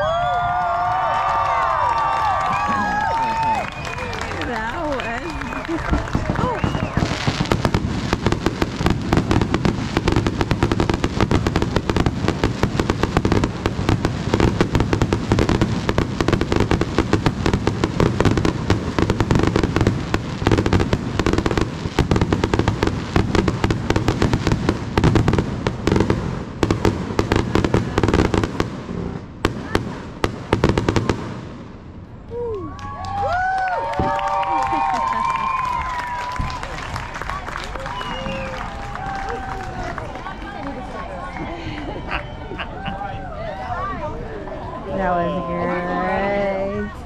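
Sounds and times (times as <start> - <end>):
fireworks bangs and crackling: 0.3 - 43.1.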